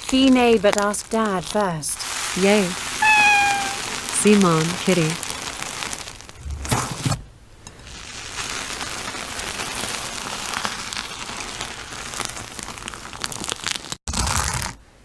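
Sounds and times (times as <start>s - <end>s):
steady hiss with faint crackles: 0.0s - 6.4s, 7.6s - 14.0s.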